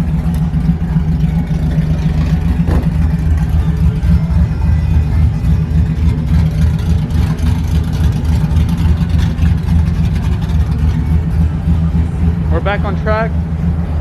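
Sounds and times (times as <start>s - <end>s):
choppy car engine running: 0.0s - 14.0s.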